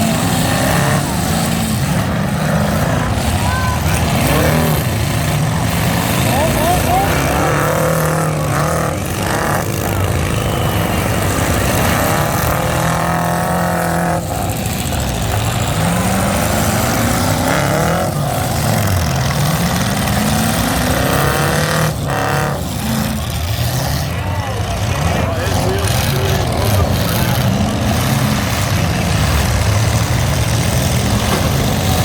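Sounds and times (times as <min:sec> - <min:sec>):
truck engines revving: 0:00.0 - 0:32.0.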